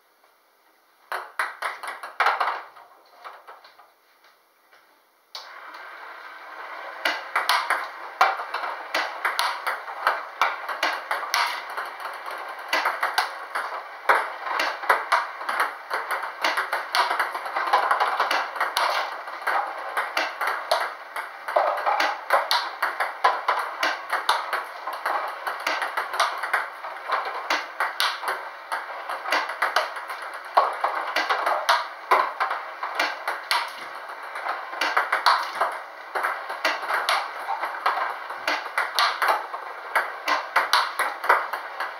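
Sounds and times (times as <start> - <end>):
ping-pong balls bouncing on table: 1.1 - 3.7, 7.0 - 41.9
ping-pong balls clicking off bat: 1.1 - 3.8, 7.0 - 41.9.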